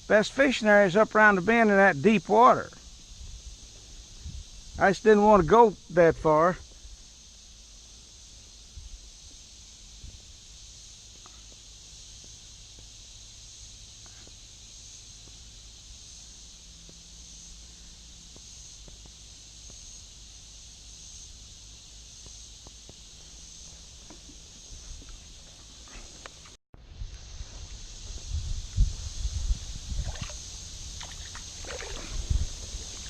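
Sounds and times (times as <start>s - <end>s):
insects singing: 0.0s - 26.6s, 27.2s - 33.0s.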